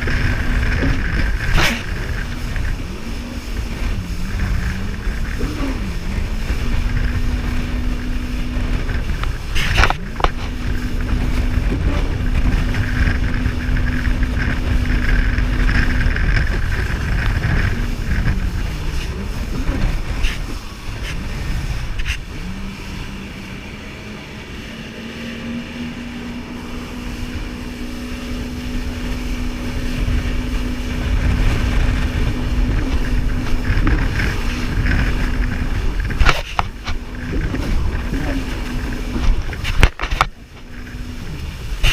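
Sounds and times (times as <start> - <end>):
jet ski engine running: 0.0 - 41.9.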